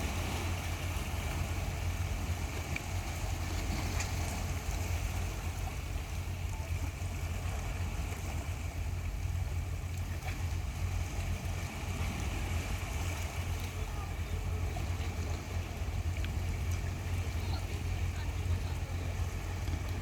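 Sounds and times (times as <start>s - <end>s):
low rumble: 0.0s - 20.0s
wind and sea water hiss: 0.0s - 20.0s.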